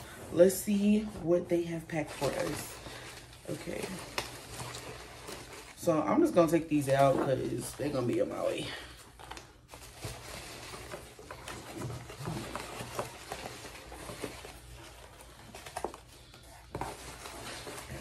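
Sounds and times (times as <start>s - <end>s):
cardboard and packing rustling: 0.0s - 18.0s.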